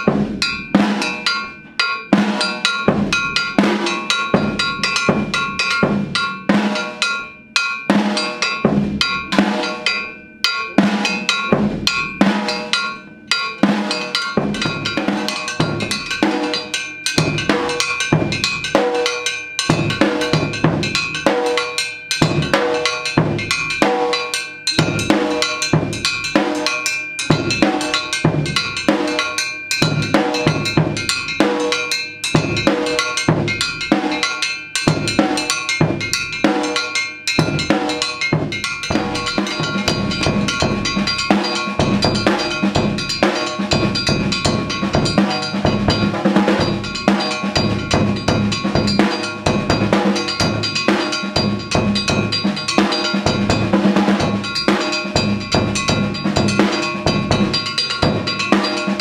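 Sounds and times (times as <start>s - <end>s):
metallic strikes on pipe: 0.0s - 59.0s.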